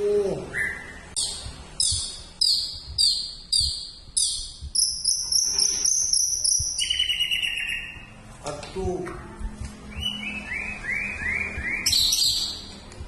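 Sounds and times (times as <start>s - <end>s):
high twittering trill: 0.5s - 8.2s, 9.9s - 12.8s.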